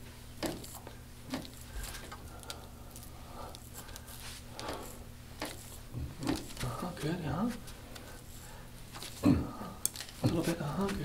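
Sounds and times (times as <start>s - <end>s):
massage roller rubbing on skin: 0.0s - 9.2s, 9.9s - 11.0s
steady low hum: 0.0s - 11.0s.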